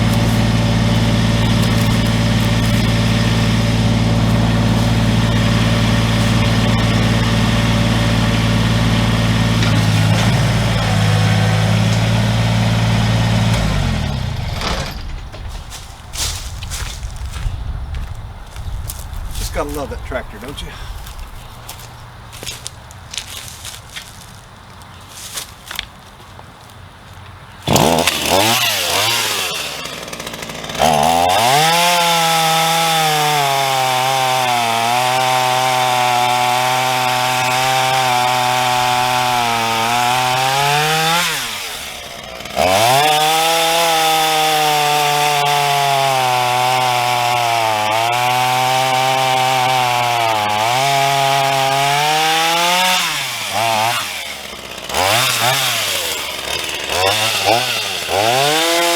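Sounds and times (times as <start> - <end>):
chainsaw cutting wood: 0.0 - 24.4, 27.6 - 58.9.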